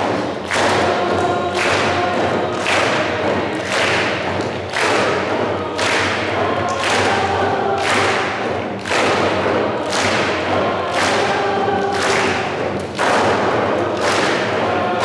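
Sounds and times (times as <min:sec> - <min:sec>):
drum beating steadily: 0:00.0 - 0:15.0
group of voices singing: 0:00.0 - 0:15.0.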